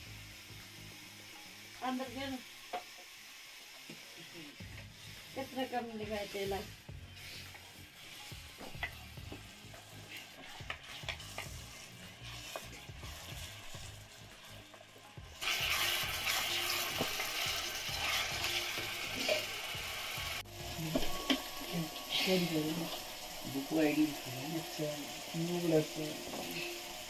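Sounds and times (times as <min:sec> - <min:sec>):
food frying in oil: 0:00.0 - 0:27.0
loud sizzle: 0:00.0 - 0:27.0.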